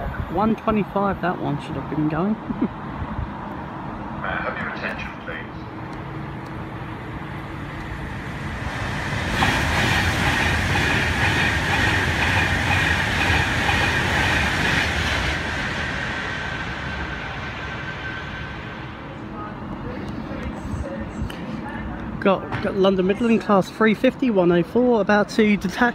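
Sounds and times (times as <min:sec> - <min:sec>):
train rushing past: 0:00.0 - 0:23.4.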